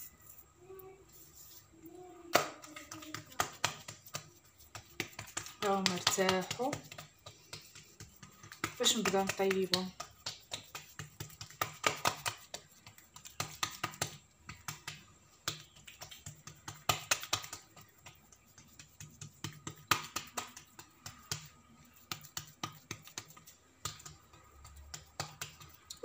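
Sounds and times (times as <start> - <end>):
fingers patting dough: 2.2 - 26.0.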